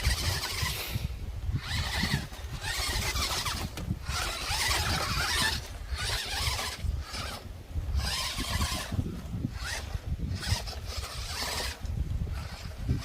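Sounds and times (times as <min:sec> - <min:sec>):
drivetrain noise: 0:00.0 - 0:13.0
electric motor whining: 0:00.0 - 0:13.0
wind rumbling on microphone: 0:00.0 - 0:13.0.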